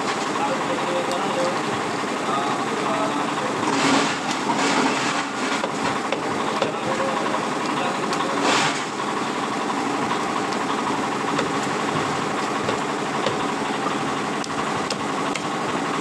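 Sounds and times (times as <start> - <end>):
engine-like drone: 0.0 - 16.0.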